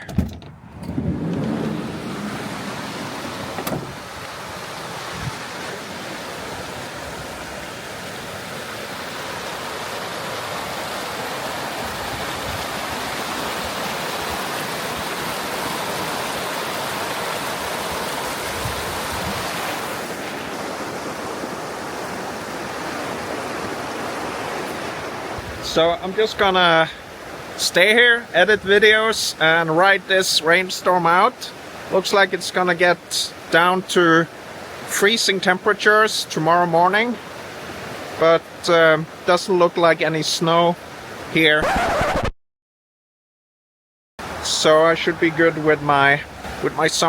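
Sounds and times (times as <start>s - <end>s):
river water rushing: 0.8s - 41.9s, 44.2s - 47.0s.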